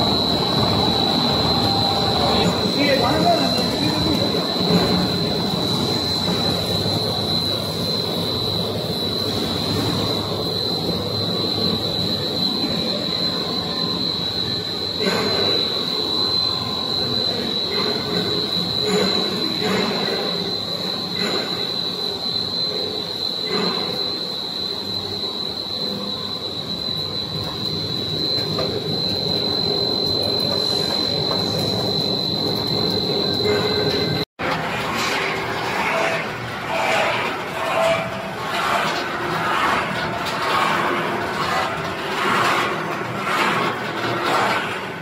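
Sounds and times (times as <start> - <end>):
high-pitched machine whine: 0.0 - 45.0.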